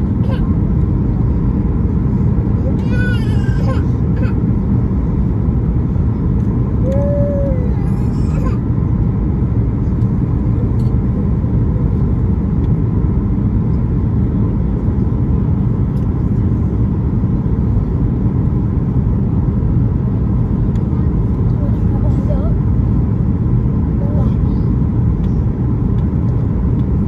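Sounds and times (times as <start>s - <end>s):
jet cabin engine roar: 0.0s - 27.0s.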